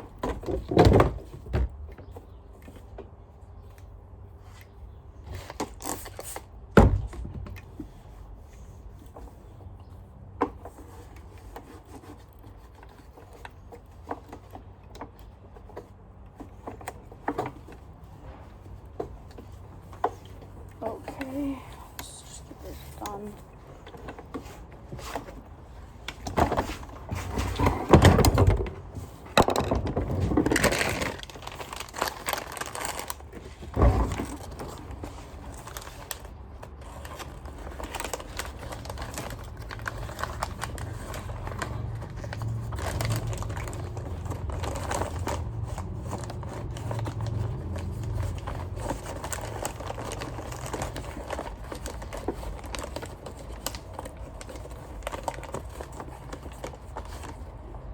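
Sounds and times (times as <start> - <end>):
handling plastic vacuum parts: 0.0 - 57.9.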